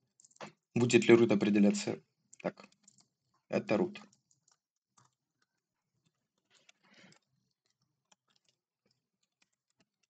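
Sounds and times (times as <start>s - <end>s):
faint keyboard clicks: 0.0s - 3.1s, 3.7s - 10.0s.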